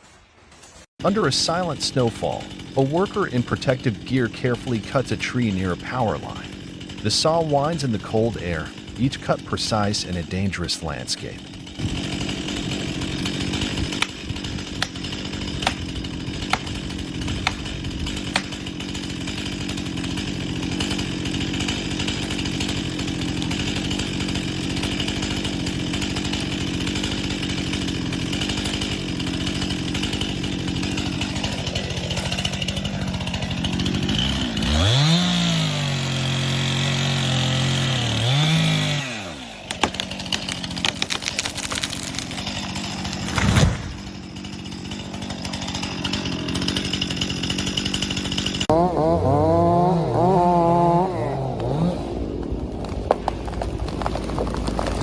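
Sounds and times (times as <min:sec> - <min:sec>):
chainsaw engine revving: 0:01.0 - 0:55.0.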